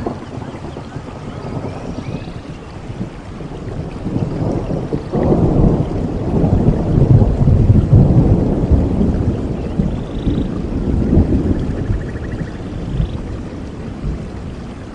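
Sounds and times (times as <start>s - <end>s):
steady rain: 0.0s - 14.9s
thunder rumbling: 0.0s - 14.9s.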